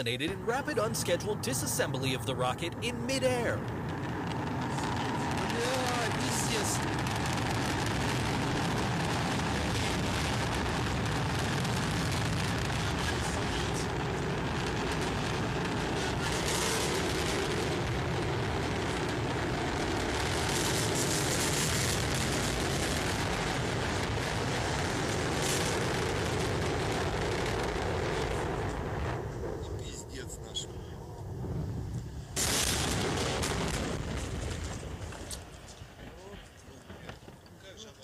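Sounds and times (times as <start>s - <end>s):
distant rocket engine roar: 0.0s - 38.0s.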